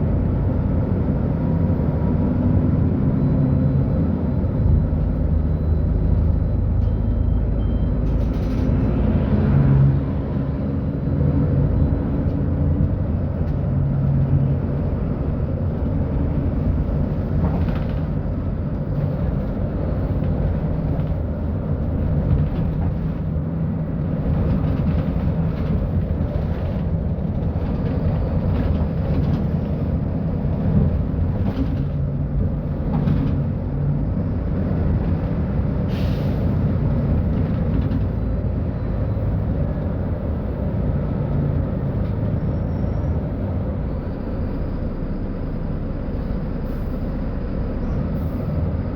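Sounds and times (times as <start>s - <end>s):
bus engine humming: 0.0s - 48.9s.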